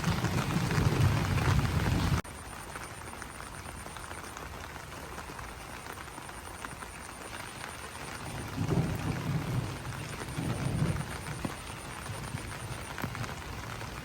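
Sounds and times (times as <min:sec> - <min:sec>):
rain pattering on leaves: 0:00.0 - 0:14.0.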